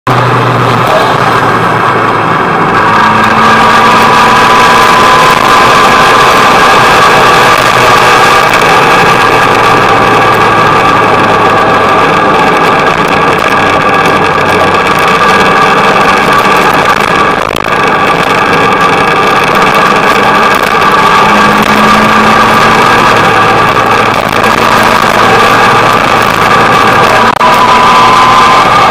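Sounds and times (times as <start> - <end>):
motorcycle engine running: 0.1 - 28.9
steady rush of noise: 0.1 - 28.9.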